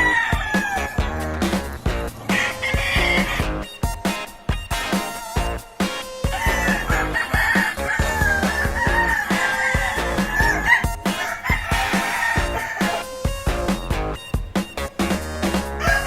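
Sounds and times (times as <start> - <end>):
background music with steady beat: 0.0 - 16.0
roosters crowing: 0.0 - 16.0.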